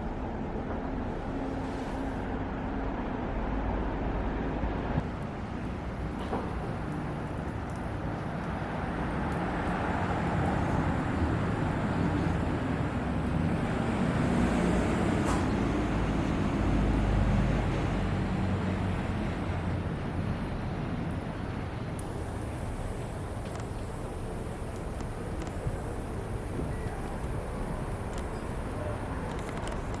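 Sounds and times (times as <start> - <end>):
passing vehicle engine hum: 0.0 - 30.0.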